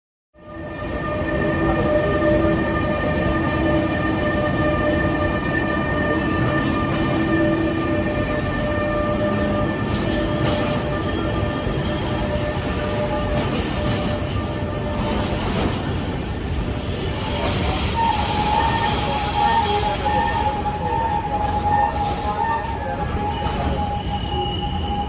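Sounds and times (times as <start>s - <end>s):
train rumbling: 0.4s - 25.0s.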